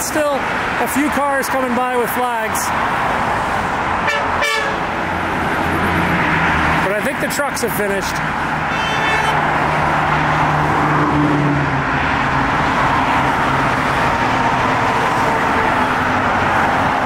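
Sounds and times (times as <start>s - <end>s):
highway traffic: 0.0s - 17.0s.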